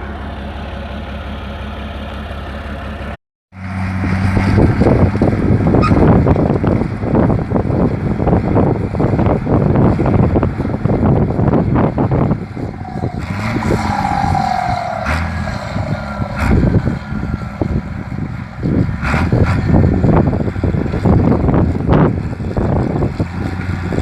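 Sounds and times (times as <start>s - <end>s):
engine roaring: 0.0s - 24.0s.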